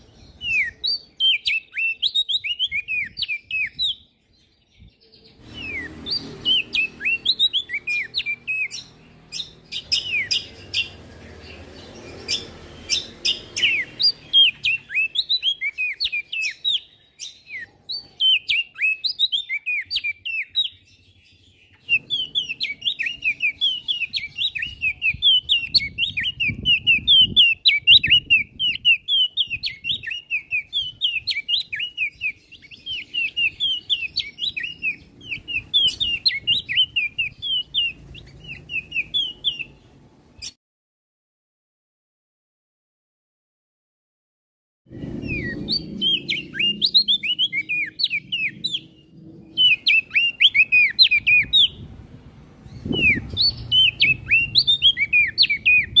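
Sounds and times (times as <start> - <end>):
songbird chirping: 0.0 - 40.6, 44.9 - 56.0.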